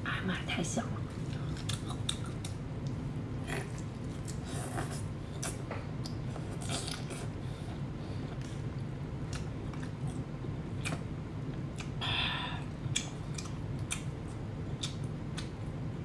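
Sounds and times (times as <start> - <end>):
steady low hum: 0.0 - 16.0
person chewing: 1.2 - 12.0, 12.6 - 15.7.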